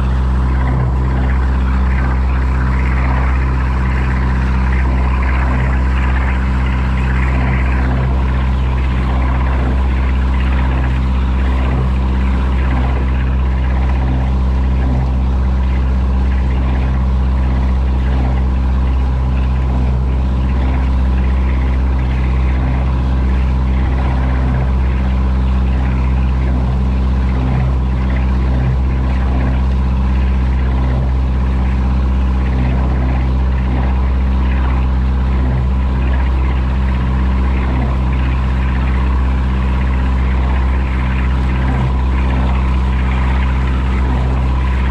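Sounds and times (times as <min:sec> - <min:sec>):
motorboat engine droning: 0:00.0 - 0:44.9
wake churning and splashing: 0:00.0 - 0:44.9.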